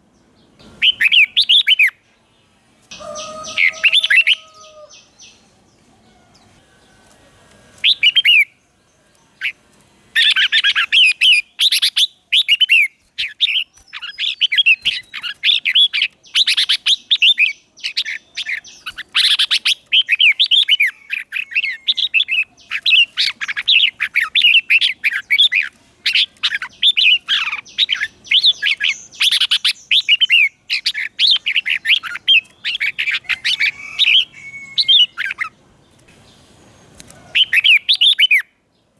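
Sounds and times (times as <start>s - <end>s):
bird singing warbling chirps: 0.0s - 2.3s, 2.9s - 7.0s, 7.8s - 9.6s, 10.2s - 35.6s, 36.3s - 38.8s.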